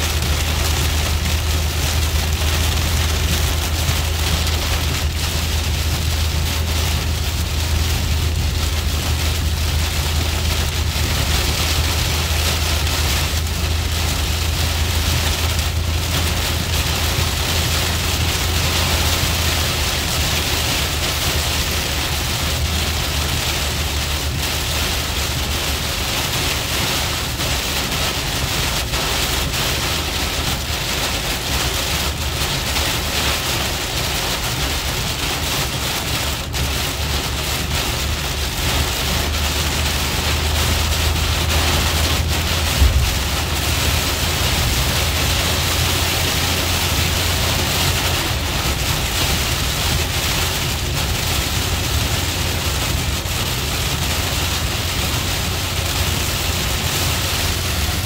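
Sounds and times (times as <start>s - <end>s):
car hum on wet road: 0.0s - 58.0s
heavy rain on car windshield: 0.0s - 58.0s.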